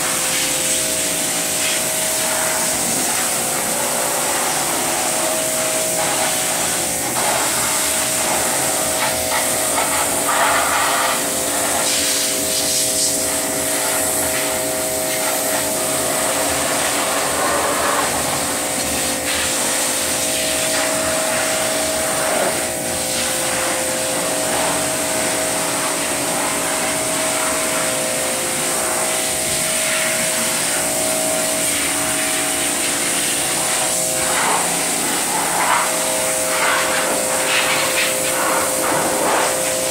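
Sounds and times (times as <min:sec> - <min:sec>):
machine humming and hissing: 0:00.0 - 0:39.9.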